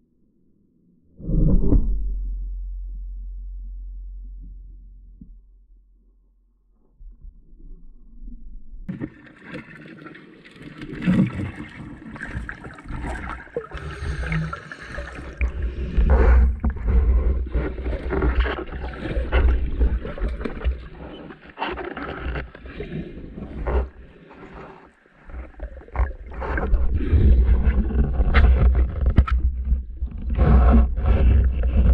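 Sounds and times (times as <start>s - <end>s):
water sloshing and gurgling: 4.2s - 31.9s.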